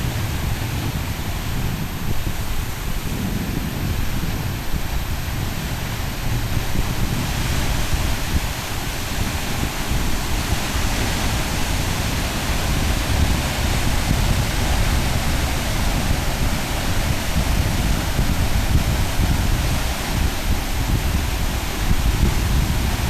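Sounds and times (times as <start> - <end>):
ocean surf rushing: 0.0 - 23.0
wind buffeting microphone: 0.0 - 23.0.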